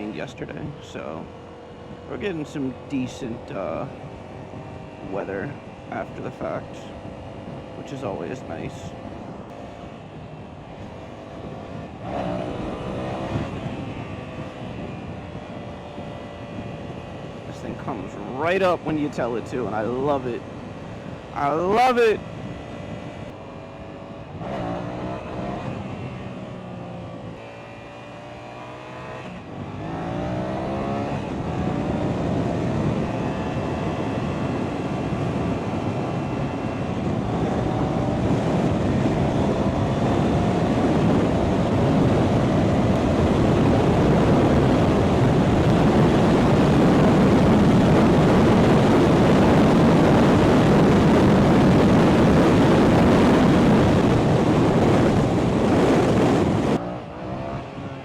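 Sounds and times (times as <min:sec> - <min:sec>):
wind noise on microphone: 0:00.0 - 0:23.4, 0:29.0 - 0:58.0
motorcycle engine accelerating: 0:00.0 - 0:58.0.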